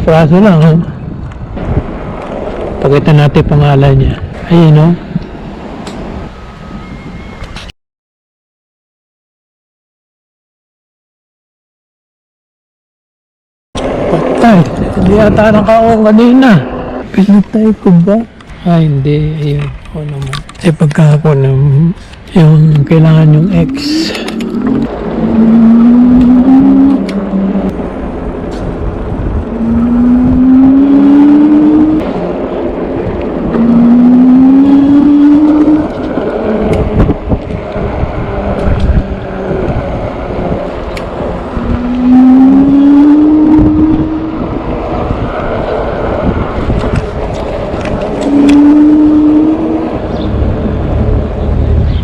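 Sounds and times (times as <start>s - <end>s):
wind buffeting microphone: 0.0s - 7.7s, 13.8s - 52.0s.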